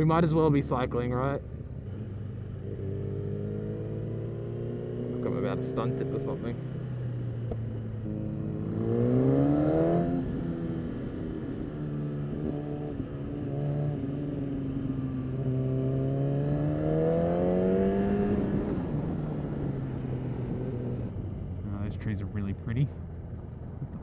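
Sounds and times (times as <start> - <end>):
motorcycle engine revving: 1.6 - 21.6.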